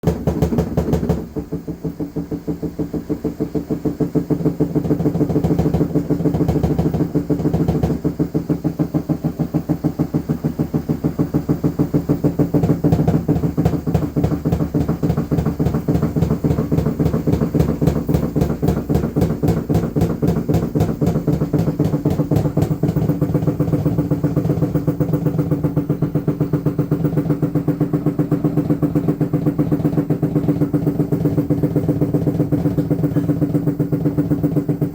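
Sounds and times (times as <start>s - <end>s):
steady low hum: 0.0s - 34.9s
washing machine rhythmic pulsing: 0.0s - 34.9s.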